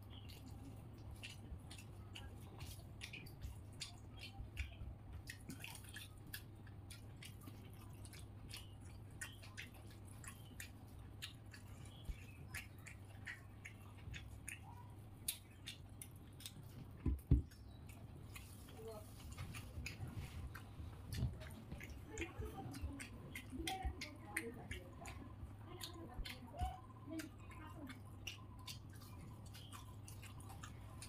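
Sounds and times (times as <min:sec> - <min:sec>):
man chewing with mouth clicks: 0:00.0 - 0:31.0
steady low hum: 0:00.0 - 0:31.0.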